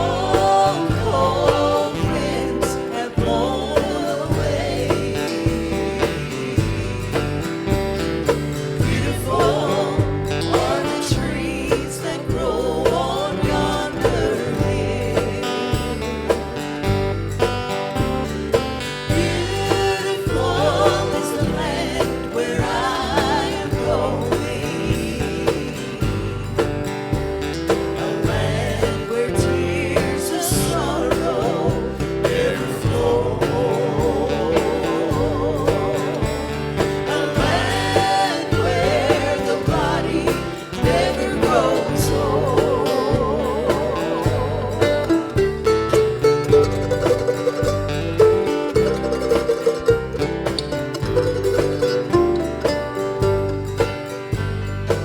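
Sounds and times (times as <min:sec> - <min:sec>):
person singing with vibrato: 0:00.0 - 0:17.2, 0:19.0 - 0:50.0
acoustic band accompaniment: 0:00.0 - 0:55.0
pulsing bass: 0:00.0 - 0:55.0.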